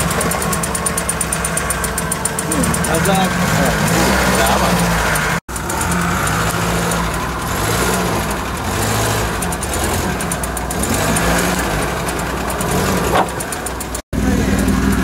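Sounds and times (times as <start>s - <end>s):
truck engine revving at low revs: 0.0s - 15.0s.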